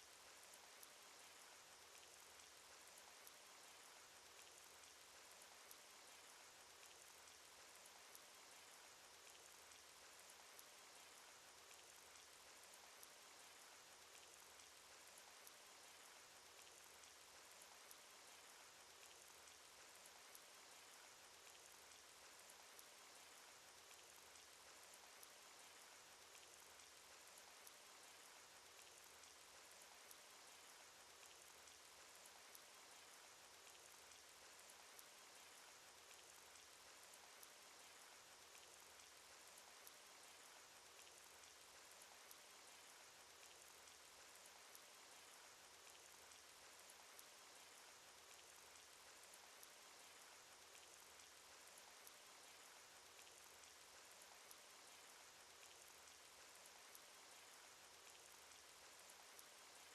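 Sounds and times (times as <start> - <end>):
rain hiss: 0.0 - 59.9
raindrop ticks: 0.1 - 59.9.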